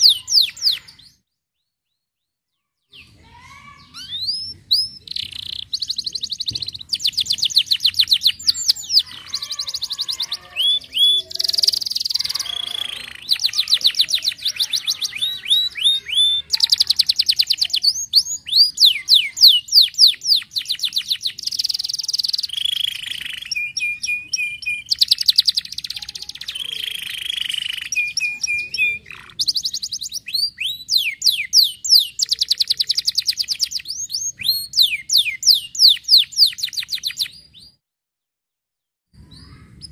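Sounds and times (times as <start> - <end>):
canary singing: 0.0 - 2.0, 2.6 - 37.8, 39.2 - 39.9.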